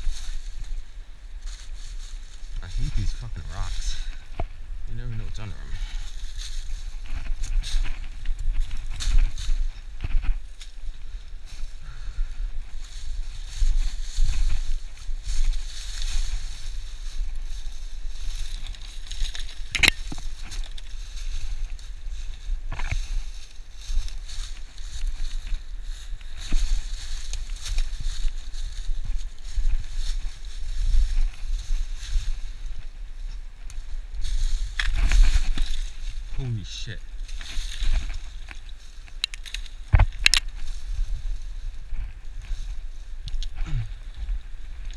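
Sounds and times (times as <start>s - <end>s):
wind on microphone: 0.0s - 39.1s
footsteps in dry leaves: 0.0s - 44.9s.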